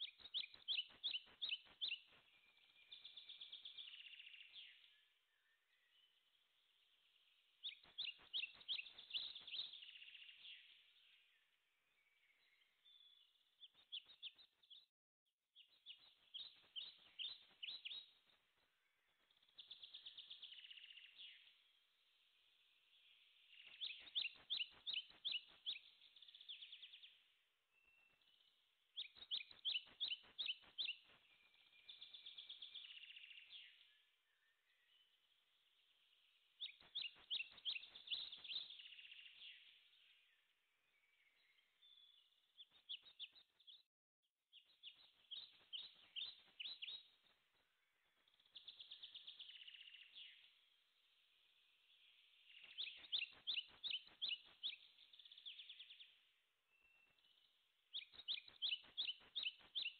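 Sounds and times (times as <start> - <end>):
songbird chirps and trills: 0.0 - 14.9, 15.5 - 43.8, 44.5 - 59.9.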